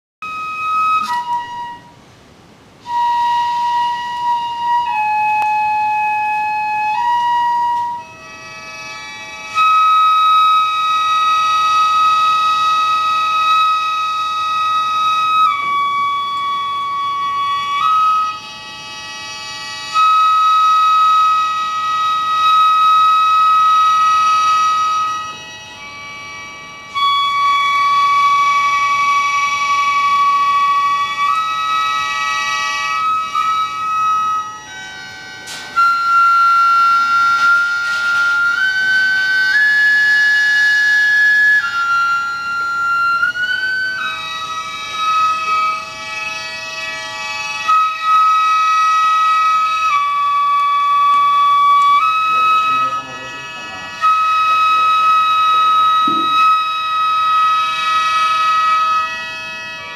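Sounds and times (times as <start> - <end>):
reed and flute ensemble music: 0.2 - 59.9.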